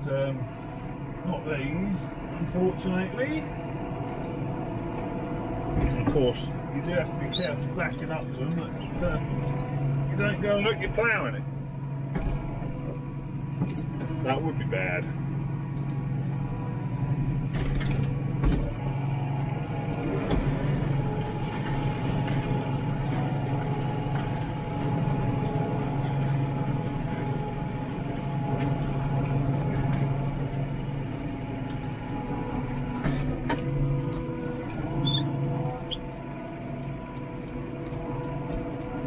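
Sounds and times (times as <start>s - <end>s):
tractor engine running under load: 0.0s - 39.0s.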